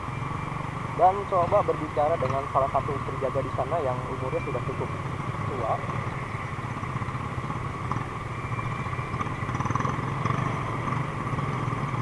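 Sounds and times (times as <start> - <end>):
nearby motorcycles: 0.0 - 12.0.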